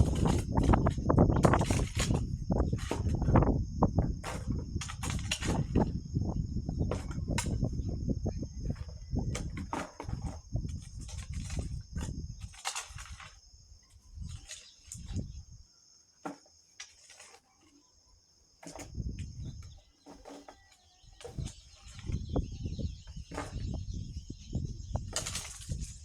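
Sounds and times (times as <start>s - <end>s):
sharp knocks and scrapes: 0.0s - 8.0s, 8.6s - 15.4s, 16.2s - 17.9s, 18.6s - 26.0s
wind buffeting microphone: 0.0s - 15.6s, 18.8s - 19.8s, 21.1s - 26.0s
high-pitched insect chorus: 0.0s - 26.0s.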